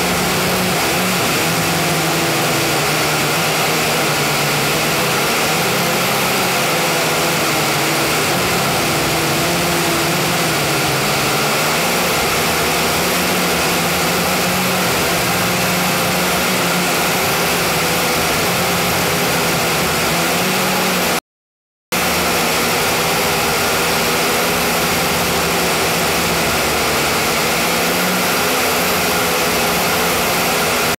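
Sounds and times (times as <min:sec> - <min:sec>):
drone motors and propellers: 0:00.0 - 0:21.2, 0:22.0 - 0:30.9.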